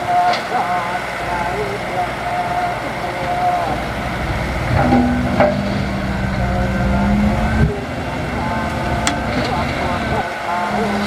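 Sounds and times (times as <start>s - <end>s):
heavy diesel engine running hard: 0.0s - 11.0s
steady whine: 0.0s - 11.0s.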